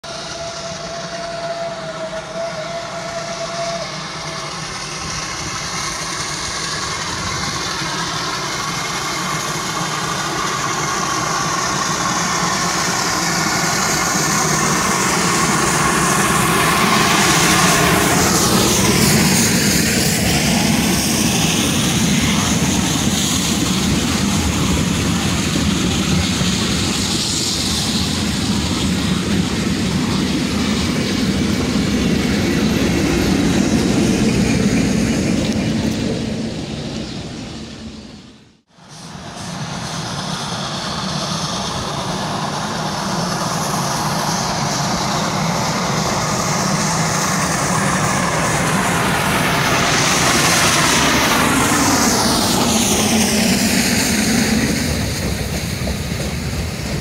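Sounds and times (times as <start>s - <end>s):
steam locomotive passing: 0.0s - 57.0s.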